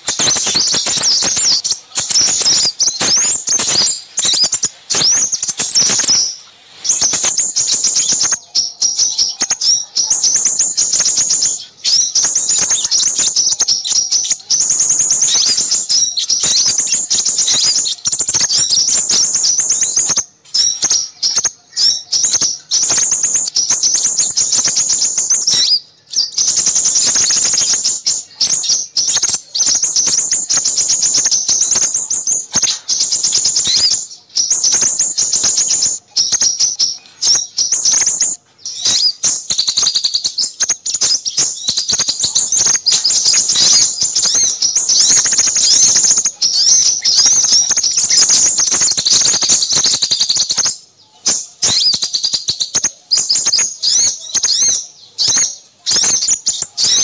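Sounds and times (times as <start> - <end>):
songbirds twittering: 0.0 - 57.0.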